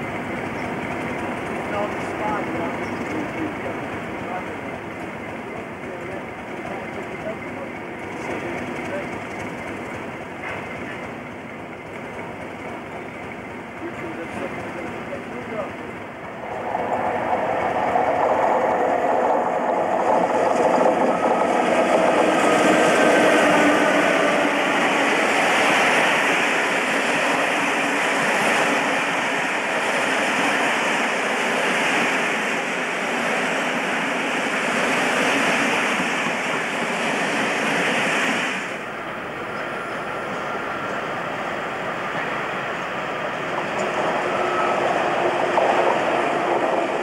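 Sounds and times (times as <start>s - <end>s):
train passing at speed: 0.0s - 47.0s.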